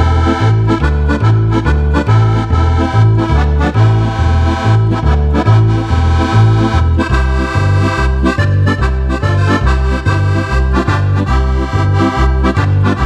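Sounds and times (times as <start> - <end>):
accordion playing a polka: 0.0 - 13.0.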